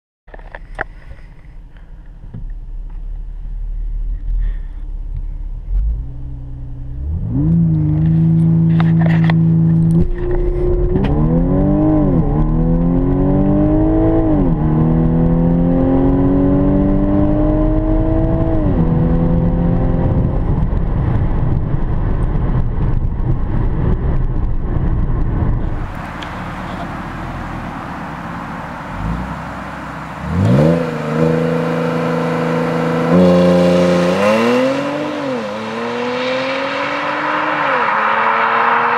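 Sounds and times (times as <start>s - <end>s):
car engine revving: 2.6s - 22.0s, 23.5s - 38.9s.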